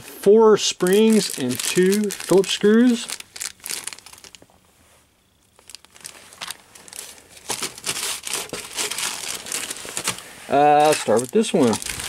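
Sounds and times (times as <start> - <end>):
plastic bag crinkling: 0.8 - 4.6, 5.5 - 12.0.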